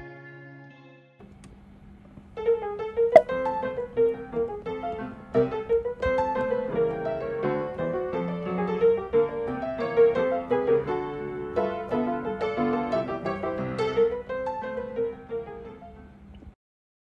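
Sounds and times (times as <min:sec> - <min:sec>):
piano tune: 0:02.3 - 0:16.3.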